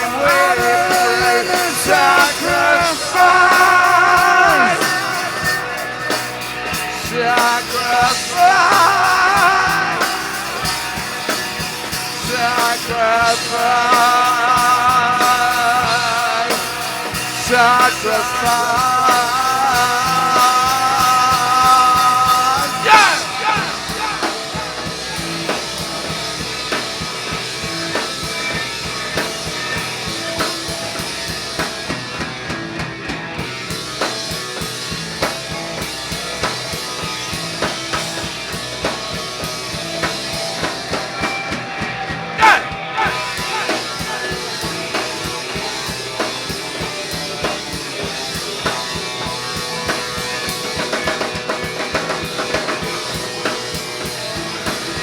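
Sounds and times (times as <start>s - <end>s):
instrumental rock music: 0.0s - 55.0s.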